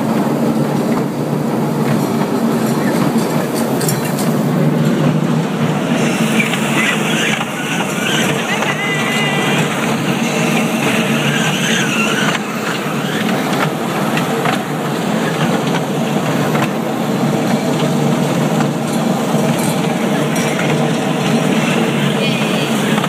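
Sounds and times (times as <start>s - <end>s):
ride-on train running: 0.0s - 23.0s.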